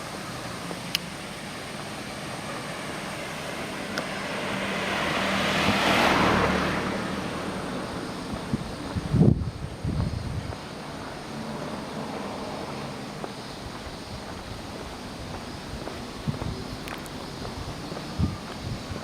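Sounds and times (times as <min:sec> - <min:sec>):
motor vehicle passing by: 0:00.4 - 0:19.0.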